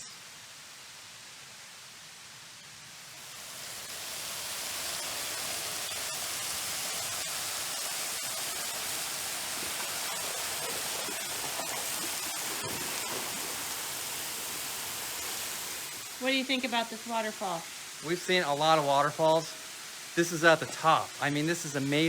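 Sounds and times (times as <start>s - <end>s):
waterfall rushing: 3.0s - 22.0s.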